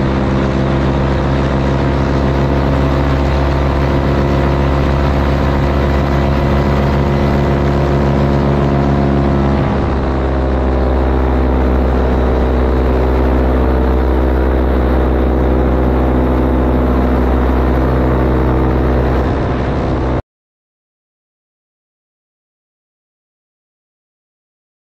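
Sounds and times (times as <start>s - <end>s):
paramotor engine and propeller drone: 0.0s - 20.2s.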